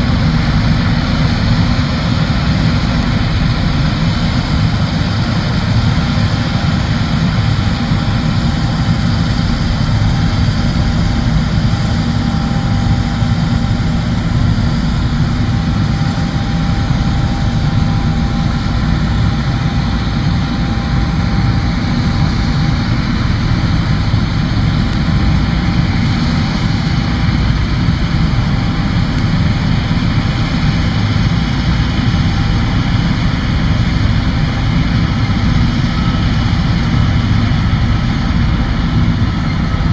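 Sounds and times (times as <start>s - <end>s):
combine harvester engine drone: 0.0s - 39.9s
faint steady whine: 0.0s - 39.9s.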